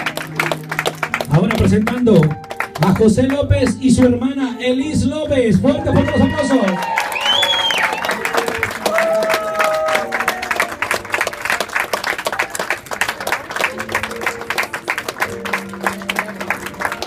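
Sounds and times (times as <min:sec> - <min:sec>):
crowd applauding: 0:00.0 - 0:04.2, 0:05.6 - 0:17.0
background music sustained notes: 0:00.0 - 0:17.0.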